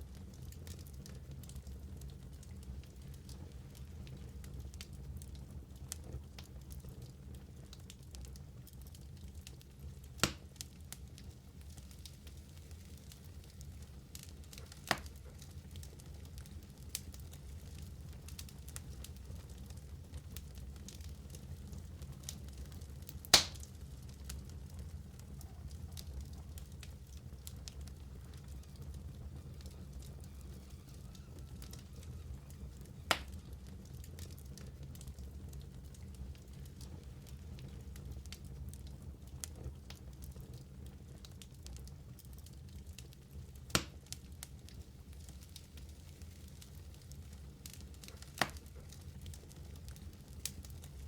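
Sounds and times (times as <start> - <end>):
fire crackling and popping: 0.0 - 51.0
fire rumbling: 0.0 - 51.0.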